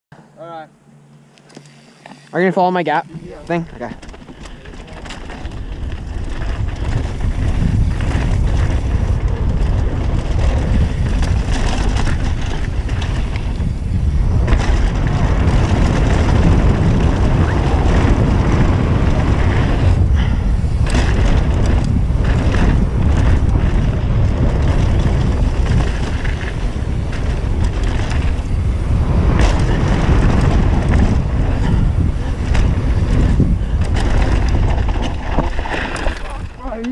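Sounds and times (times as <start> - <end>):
bike rattling over bumps: 1.5 - 36.9
tyres rolling on dirt: 2.9 - 36.9
wind rushing over microphone: 3.2 - 36.9.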